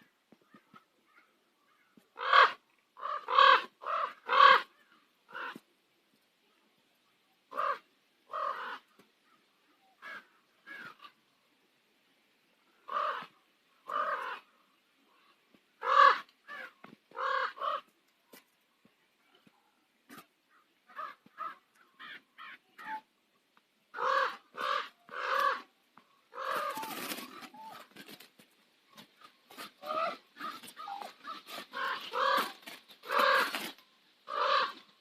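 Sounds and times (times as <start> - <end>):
ravens croaking: 0.0 - 5.6, 7.5 - 11.3, 12.7 - 18.4, 19.3 - 23.1, 23.9 - 35.0.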